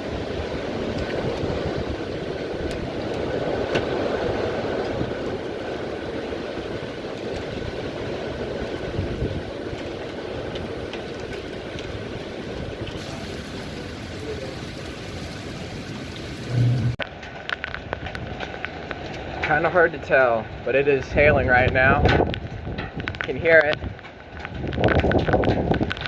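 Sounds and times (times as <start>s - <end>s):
wind and rain rushing: 0.0s - 26.0s.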